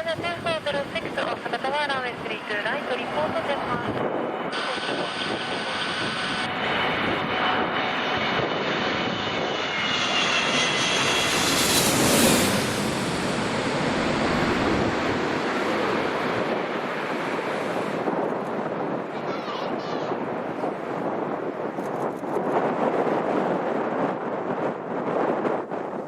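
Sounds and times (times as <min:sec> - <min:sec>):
jet airliner passing overhead: 0:00.0 - 0:26.0.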